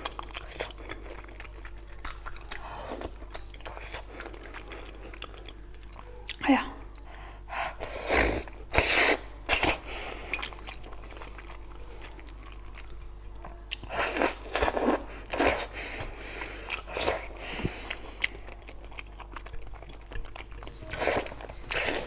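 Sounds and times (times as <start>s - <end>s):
person chewing crunchy food: 0.0s - 6.4s, 7.9s - 22.0s.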